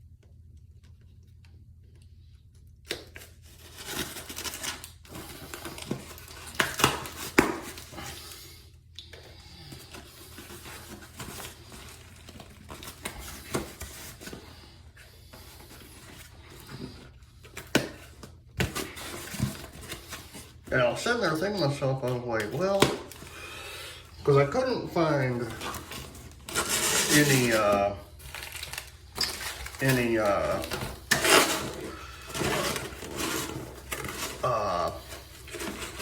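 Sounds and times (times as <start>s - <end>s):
packaging tearing and crinkling: 2.9s - 8.4s, 9.9s - 14.7s, 15.6s - 36.0s.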